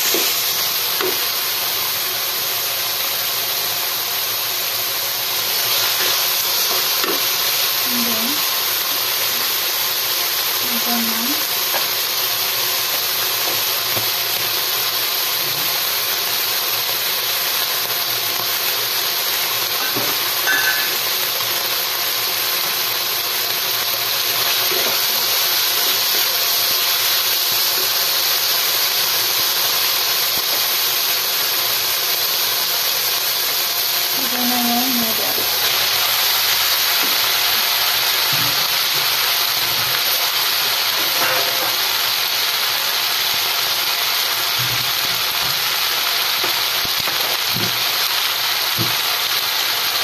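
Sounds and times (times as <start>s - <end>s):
food sizzling in oil: 0.0s - 50.0s.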